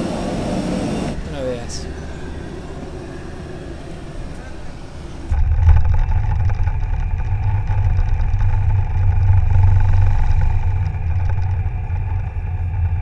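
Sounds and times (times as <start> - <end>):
engine whine: 0.0 - 13.0
jet engines rumbling: 0.0 - 13.0.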